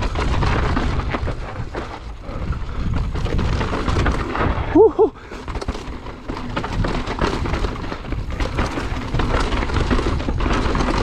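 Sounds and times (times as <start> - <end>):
bicycle frame and chain rattling: 0.0 - 11.0
tyres crunching over dirt: 0.0 - 11.0.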